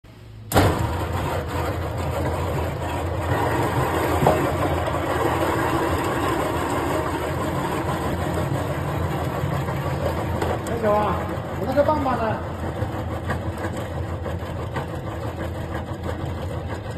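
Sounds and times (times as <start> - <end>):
electric meat grinder running: 0.8 - 16.9.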